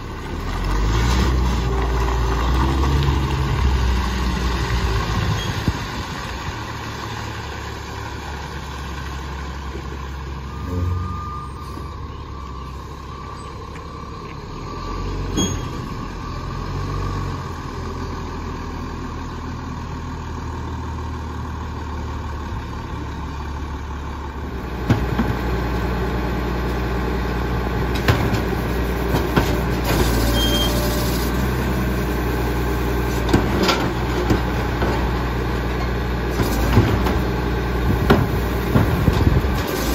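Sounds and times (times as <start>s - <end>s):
garbage truck diesel engine: 0.0s - 39.9s.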